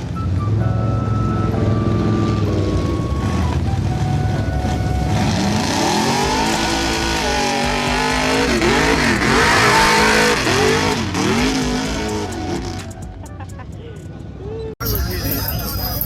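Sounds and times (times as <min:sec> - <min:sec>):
truck engine revving: 0:00.0 - 0:13.4.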